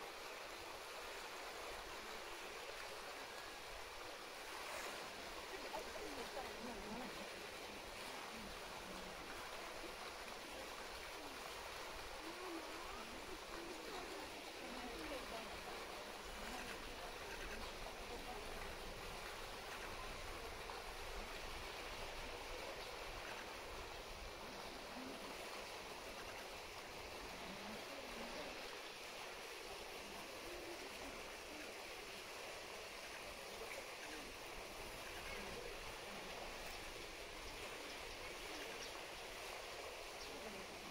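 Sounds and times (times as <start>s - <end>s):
faint distant voices: 0.0s - 40.9s
water rushing: 0.0s - 40.9s.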